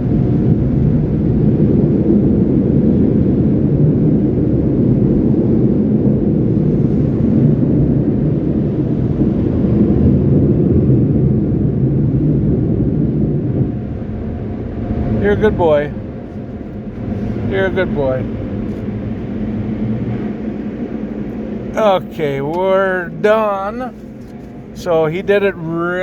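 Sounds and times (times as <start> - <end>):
car wash air dryer roaring: 0.0 - 26.0.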